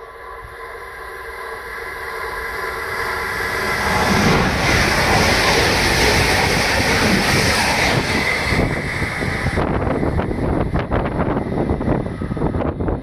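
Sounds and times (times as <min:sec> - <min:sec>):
high-speed train passing: 0:00.0 - 0:13.0
rush of air and wheel noise: 0:00.0 - 0:13.0.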